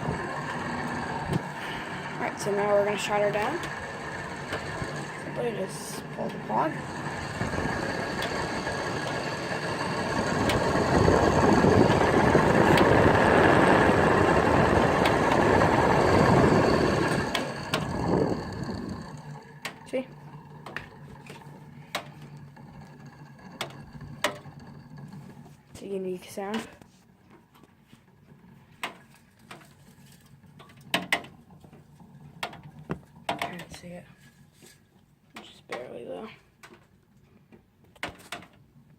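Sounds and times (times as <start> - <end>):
air conditioner fan rattling drone: 0.0 - 37.0.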